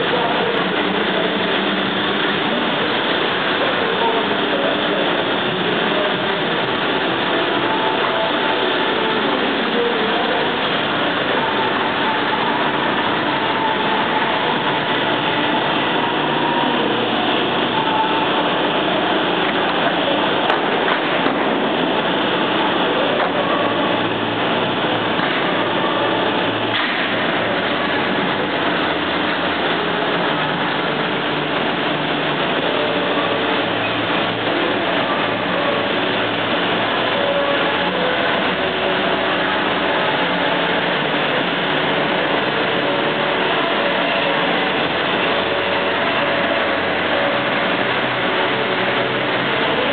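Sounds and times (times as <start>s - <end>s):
faint humming tones: 0.0s - 49.9s
loud factory machinery noise: 0.0s - 49.9s.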